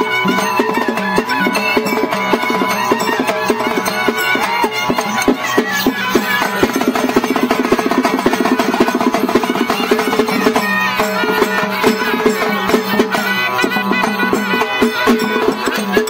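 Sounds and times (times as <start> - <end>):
fast steady drumming: 0.0 - 16.0
folk melody: 0.0 - 16.0.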